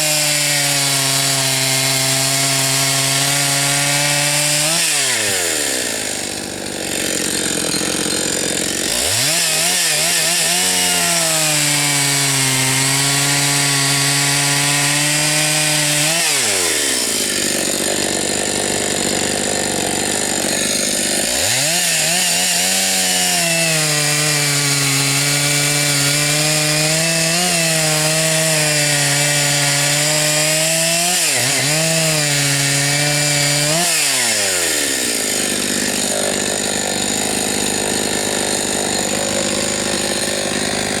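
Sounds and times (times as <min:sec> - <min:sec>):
chainsaw cutting logs: 0:00.0 - 0:41.0.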